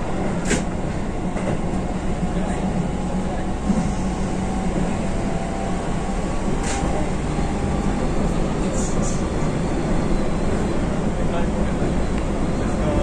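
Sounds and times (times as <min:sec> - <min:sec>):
electric train rolling rumble: 0:00.0 - 0:13.0.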